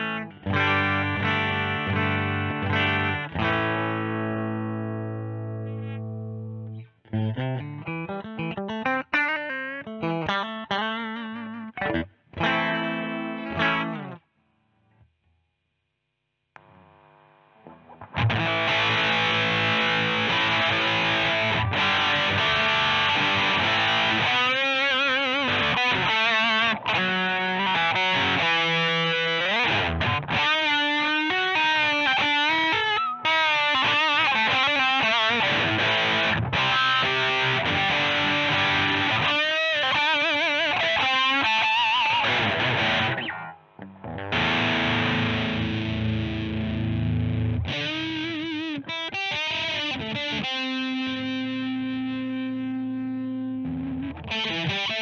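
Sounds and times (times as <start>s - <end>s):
distorted electric guitar riffs: 0.0s - 14.3s, 16.6s - 55.0s.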